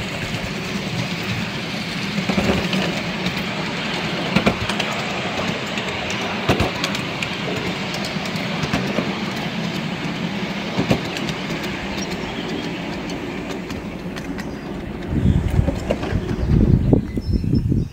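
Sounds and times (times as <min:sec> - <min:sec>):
wheels clicking over rail joints: 0:00.0 - 0:17.5
train wheels rolling on track: 0:00.0 - 0:17.9.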